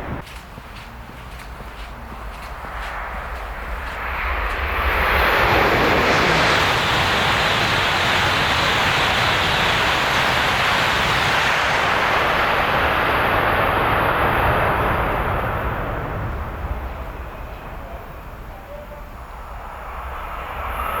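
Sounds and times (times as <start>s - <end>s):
high-speed train rushing past: 0.0s - 21.0s.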